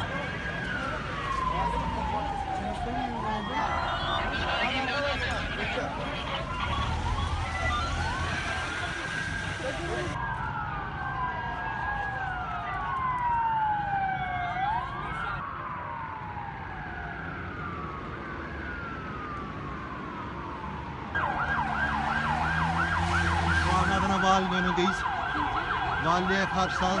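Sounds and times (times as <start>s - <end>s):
siren in fast yelp: 0.0s - 17.8s, 20.4s - 27.0s
sirens wailing: 0.0s - 27.0s.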